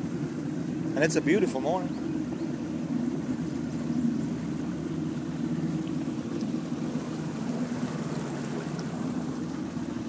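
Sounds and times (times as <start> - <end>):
engine humming: 0.0 - 10.0.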